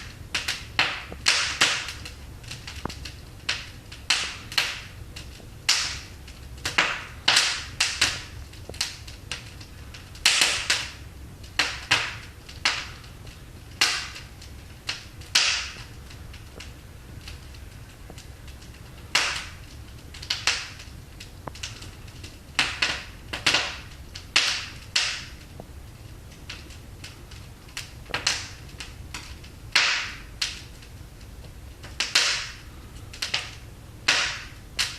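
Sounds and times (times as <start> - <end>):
logs crackling and popping: 0.0 - 34.9
low rumble of fire: 0.0 - 34.9.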